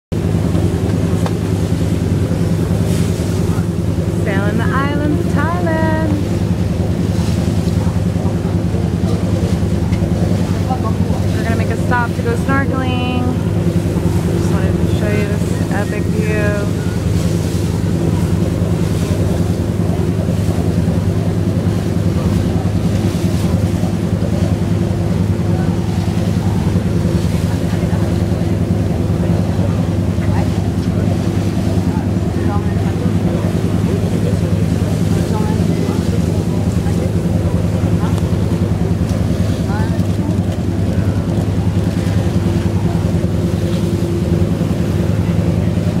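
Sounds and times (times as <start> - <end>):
boat engine running: 0.1 - 46.0.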